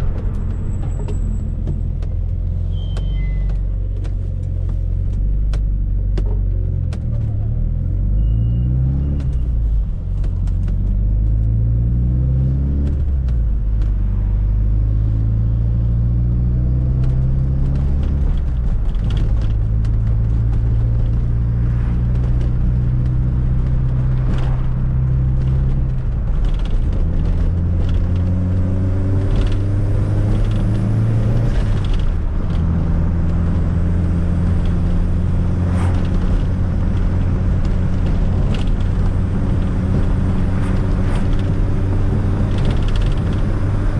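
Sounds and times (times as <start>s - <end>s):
car engine driving: 0.0s - 43.9s.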